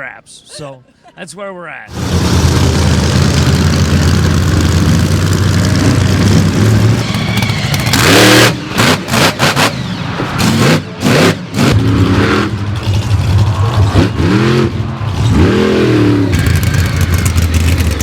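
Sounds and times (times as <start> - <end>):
monster truck engine revving: 1.9 - 18.0.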